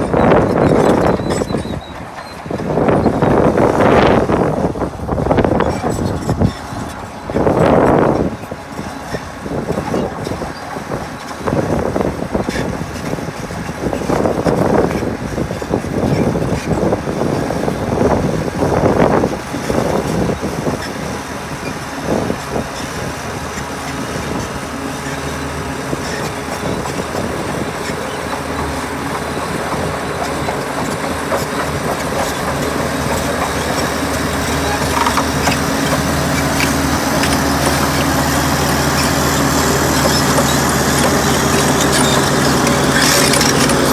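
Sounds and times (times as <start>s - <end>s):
diesel construction machinery running: 0.0s - 43.9s.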